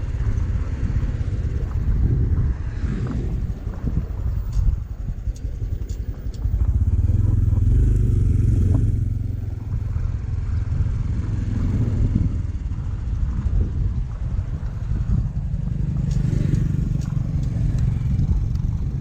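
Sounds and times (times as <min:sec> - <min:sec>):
motorcycle rumbling: 0:00.0 - 0:19.0.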